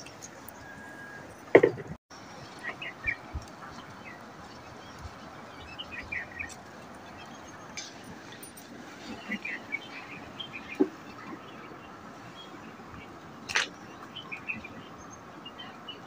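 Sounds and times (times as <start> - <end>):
outdoor background noise: 0.0 - 16.0
small birds chirping: 2.3 - 16.0.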